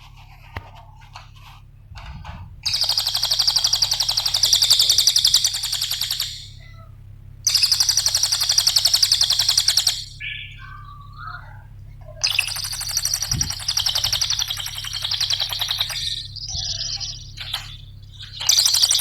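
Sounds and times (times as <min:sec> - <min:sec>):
bird chirps: 0:02.6 - 0:19.0
songbird rattling trills: 0:02.6 - 0:19.0.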